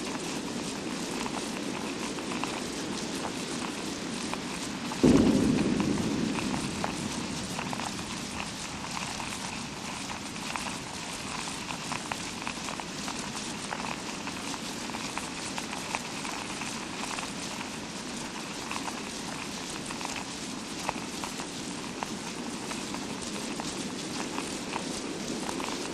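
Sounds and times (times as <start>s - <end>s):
simulated rain hiss: 0.0s - 25.9s.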